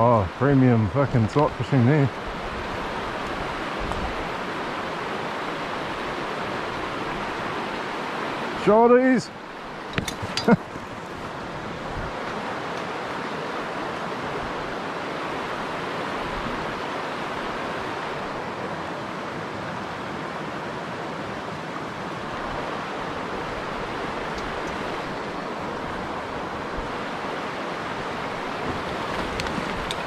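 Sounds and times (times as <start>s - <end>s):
stream running over stones: 0.0s - 30.0s.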